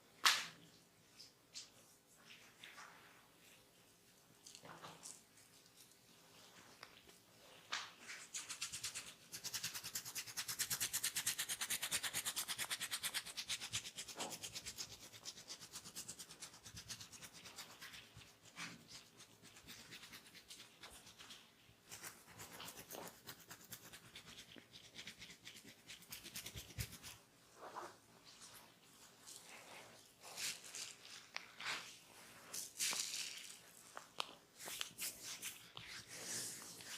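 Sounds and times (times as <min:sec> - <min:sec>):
rubbing and scratching on hair: 0:04.4 - 0:36.9.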